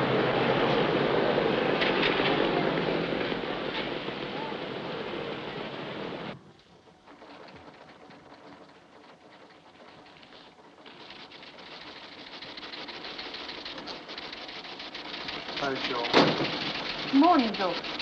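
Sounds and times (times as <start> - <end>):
steady rush of noise: 0.0 - 18.0.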